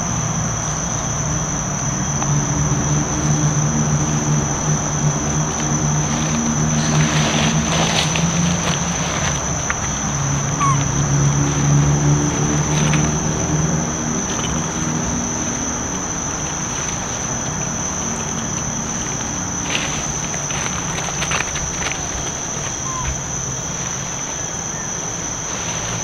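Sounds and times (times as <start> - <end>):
low hum: 0.0 - 25.6
insects droning: 0.0 - 26.0.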